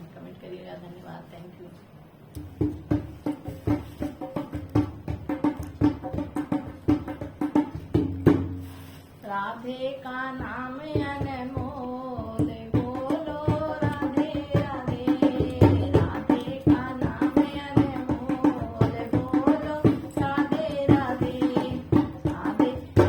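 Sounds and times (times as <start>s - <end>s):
tabla beat: 2.4s - 8.9s, 10.3s - 23.0s.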